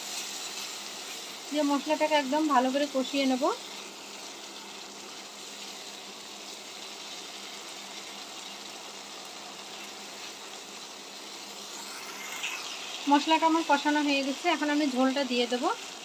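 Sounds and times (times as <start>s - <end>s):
paste sizzling in oil: 0.0s - 16.0s.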